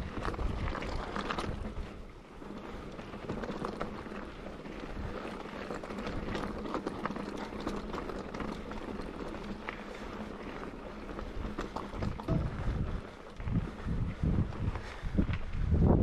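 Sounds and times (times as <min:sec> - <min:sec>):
tyres crunching over stones: 0:00.0 - 0:13.8
bike rattling: 0:00.0 - 0:16.0.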